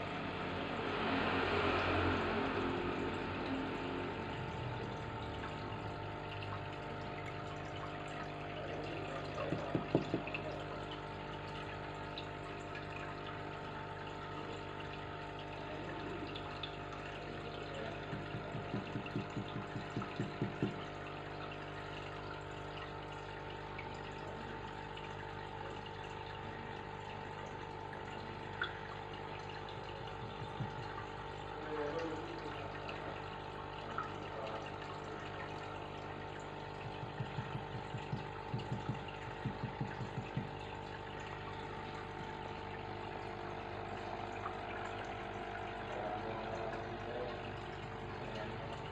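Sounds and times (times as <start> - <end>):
filter pump motor hum: 0.0 - 48.9
water trickling: 0.0 - 48.9.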